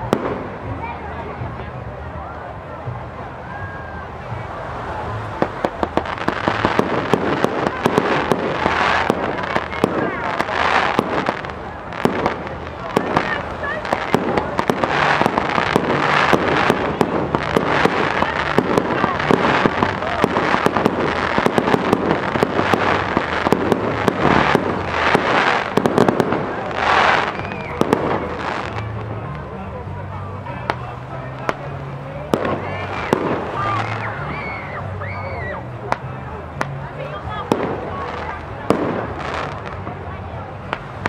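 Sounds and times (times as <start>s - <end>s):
fireworks bangs and cracks: 0.0s - 1.8s, 5.0s - 34.9s, 35.8s - 41.0s
crackling hiss: 0.0s - 41.0s.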